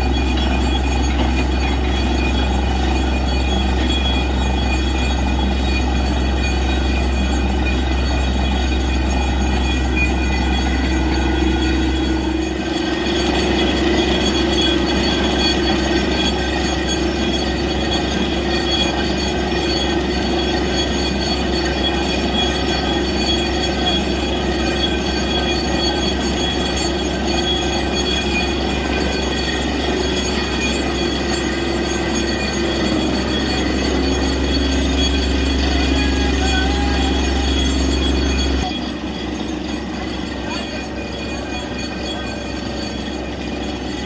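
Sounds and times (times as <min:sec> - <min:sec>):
drilling rig engine droning: 0:00.0 - 0:44.0
high steady whining tones: 0:00.0 - 0:44.0.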